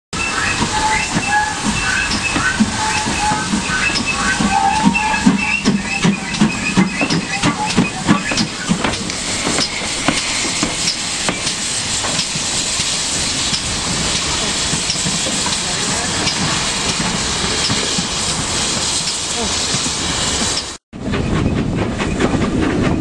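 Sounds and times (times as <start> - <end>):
steam locomotive exhaust chuffing: 0.1 - 23.0
steam hissing: 0.2 - 20.8.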